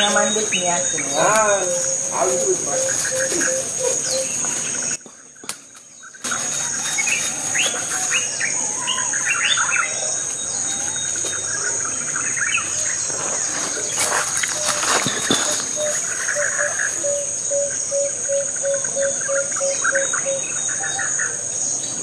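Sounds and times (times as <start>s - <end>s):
birds chirping: 0.0s - 22.0s
insect drone: 0.0s - 22.0s.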